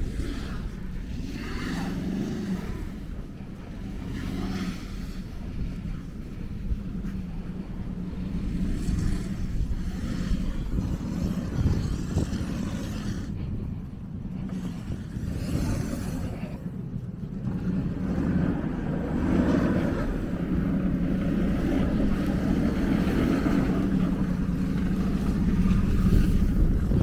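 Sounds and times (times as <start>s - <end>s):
vehicle engine rumbling: 0.0s - 27.0s
wind noise on microphone: 0.0s - 27.0s.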